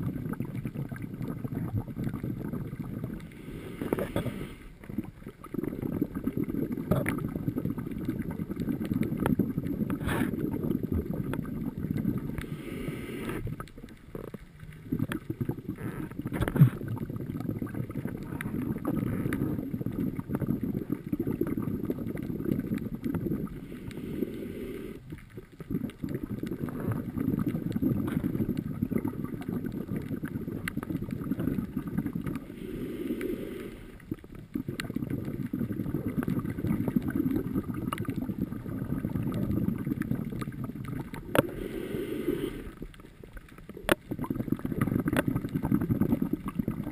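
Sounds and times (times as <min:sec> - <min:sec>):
underwater breathing bubbles: 0:00.0 - 0:46.9.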